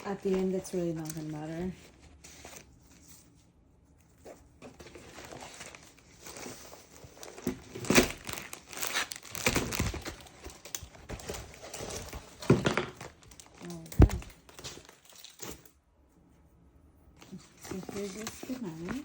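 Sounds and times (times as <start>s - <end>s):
packaging crinkling and rustling: 0.0s - 3.4s, 4.2s - 15.8s, 17.2s - 19.0s.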